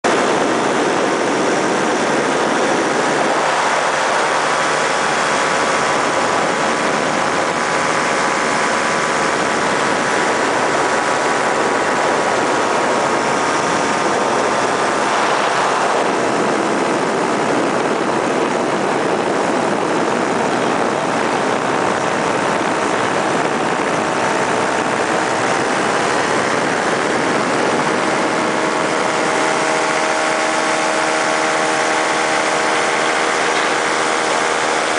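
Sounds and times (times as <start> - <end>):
paramotor engine droning: 0.1 - 34.9.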